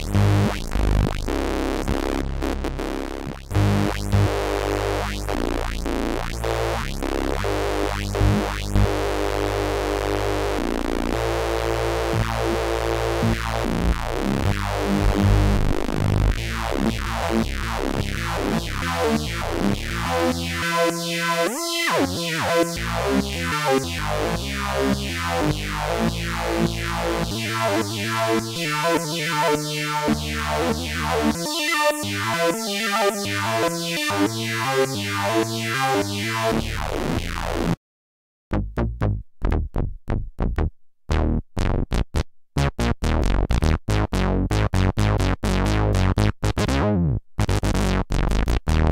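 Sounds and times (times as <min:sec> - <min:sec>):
stuttering sawtooth synth bass: 0:00.0 - 0:37.8, 0:38.5 - 0:48.9
synthesizer plucked notes: 0:00.0 - 0:37.8, 0:38.5 - 0:48.9.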